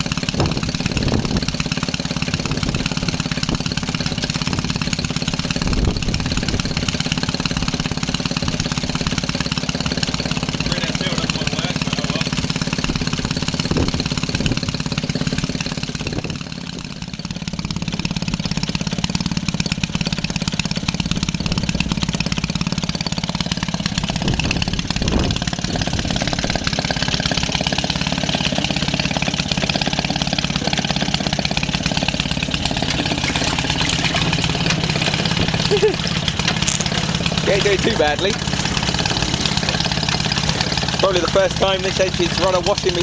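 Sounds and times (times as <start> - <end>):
two-stroke engine running: 0.0 - 43.0.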